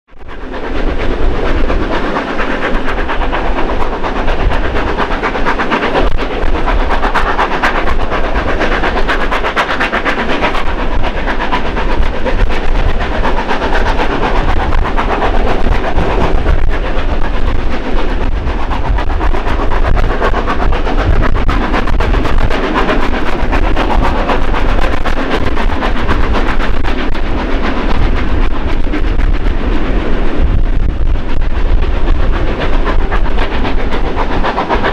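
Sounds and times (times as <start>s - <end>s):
steam locomotive exhaust beats: 0.1s - 34.9s.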